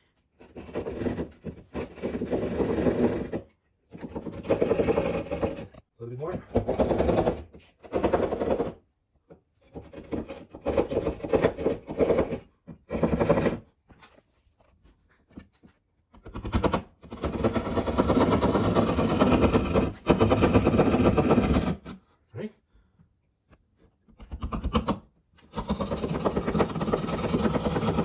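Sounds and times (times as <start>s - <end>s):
hand saw rasping through drywall: 0.0s - 8.8s, 9.6s - 13.8s, 16.2s - 22.1s, 24.1s - 28.0s.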